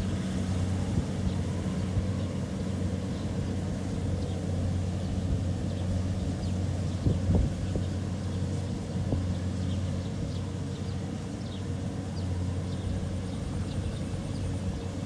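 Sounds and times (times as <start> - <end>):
combine harvester engine running: 0.0 - 15.0.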